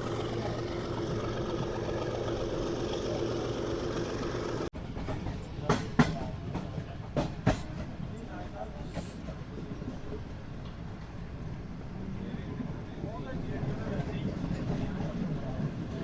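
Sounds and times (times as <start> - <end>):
train rumble inside coach: 0.0 - 16.0.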